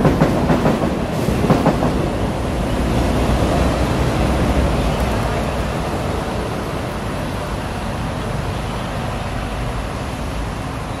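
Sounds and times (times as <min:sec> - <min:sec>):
road traffic: 0:00.0 - 0:11.0
train rumbling on viaduct: 0:00.0 - 0:11.0.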